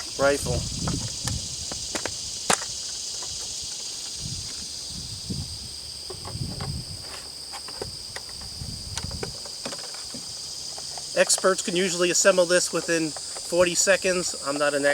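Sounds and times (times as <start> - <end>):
insects droning: 0.0 - 14.9.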